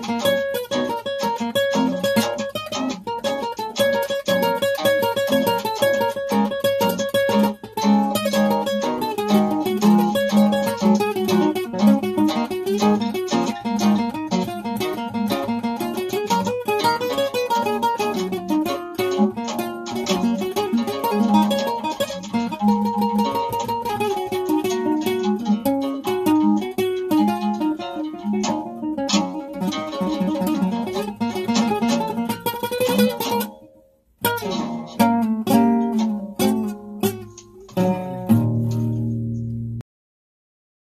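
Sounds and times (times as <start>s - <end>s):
acoustic blues guitar: 0.0s - 39.8s.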